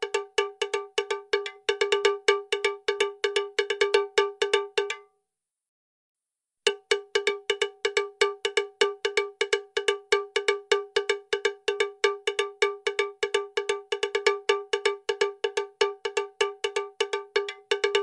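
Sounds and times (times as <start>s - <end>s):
small metal bell strikes: 0.0s - 5.1s, 6.7s - 12.4s, 14.1s - 18.0s.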